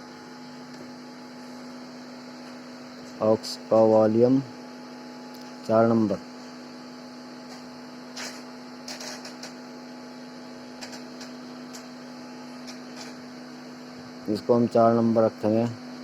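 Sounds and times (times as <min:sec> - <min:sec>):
amplifier electrical hum: 0:00.0 - 0:16.0.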